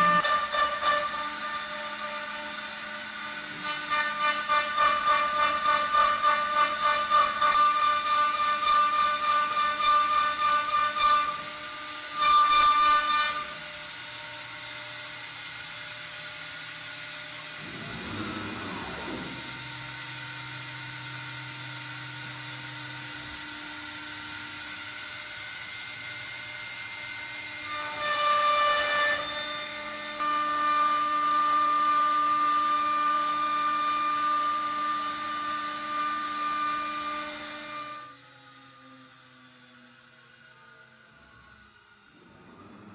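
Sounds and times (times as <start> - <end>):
router spindle cutting wood: 0.0 - 42.9.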